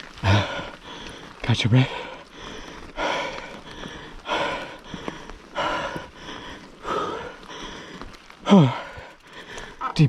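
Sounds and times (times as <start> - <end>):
heavy noisy breathing: 0.2 - 10.0.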